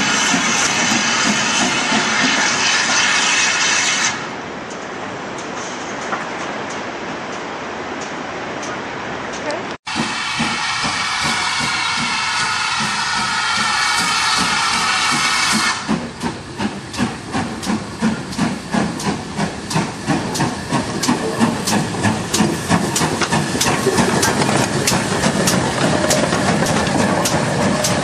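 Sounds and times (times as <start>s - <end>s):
steam hissing: 0.0s - 4.4s, 9.9s - 28.0s
steam locomotive exhaust chuffing: 0.0s - 4.4s, 9.9s - 28.0s.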